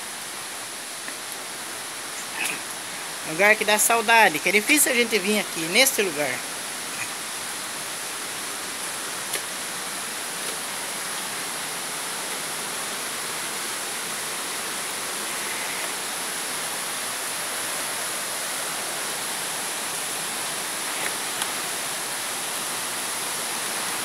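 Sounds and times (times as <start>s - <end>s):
water rushing through gorge: 0.0s - 24.0s.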